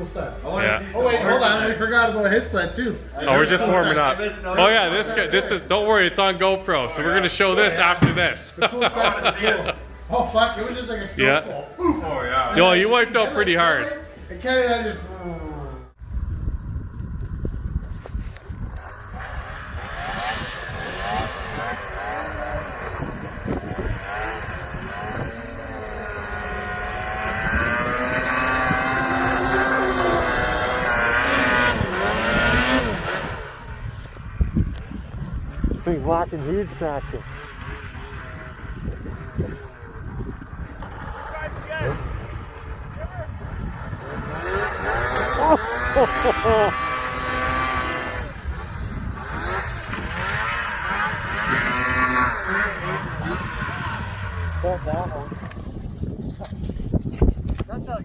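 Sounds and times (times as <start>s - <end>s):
snowmobile engine revving: 0.0s - 16.0s, 18.7s - 56.7s.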